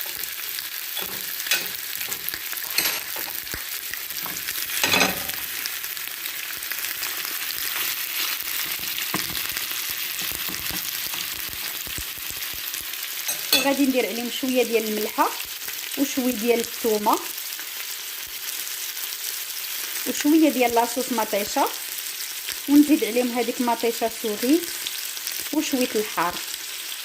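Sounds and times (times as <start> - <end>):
seafood sizzling in a frying pan: 0.0 - 27.0.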